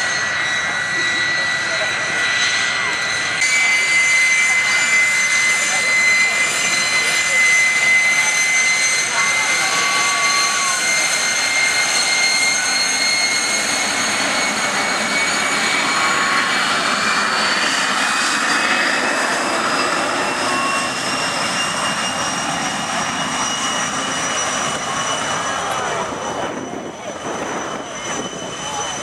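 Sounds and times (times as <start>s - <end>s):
high-pitched jet whine: 0.0s - 29.0s
jet aircraft taxiing: 0.0s - 29.0s
jet exhaust roar: 0.0s - 29.0s.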